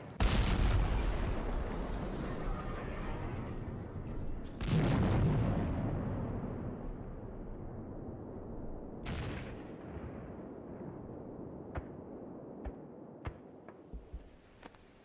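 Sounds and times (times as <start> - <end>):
low rumble of explosions: 0.0 - 15.0.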